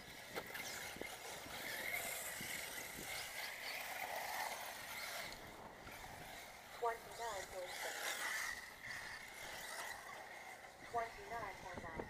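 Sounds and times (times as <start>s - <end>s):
electric motor and gear whine: 0.0s - 12.0s.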